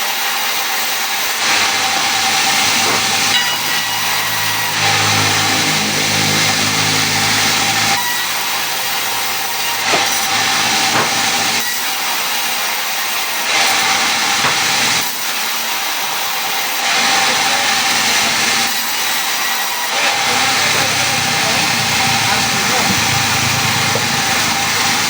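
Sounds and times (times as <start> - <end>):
power saw cutting wood: 0.0 - 25.0.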